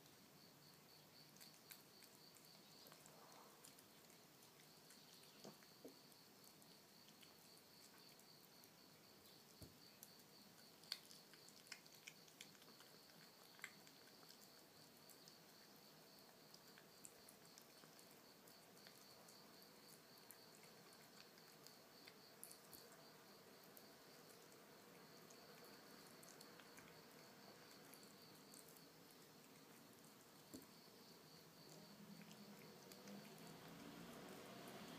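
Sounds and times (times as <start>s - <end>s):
kitten chewing wet food: 0.0s - 34.9s.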